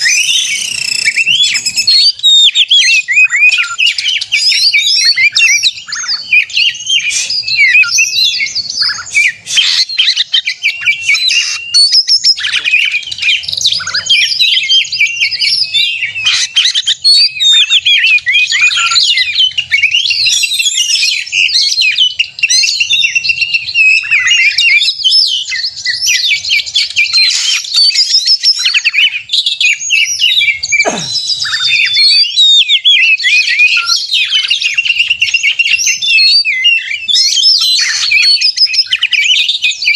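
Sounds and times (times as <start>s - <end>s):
bird singing rapid chirps and whistles: 0.0s - 39.9s.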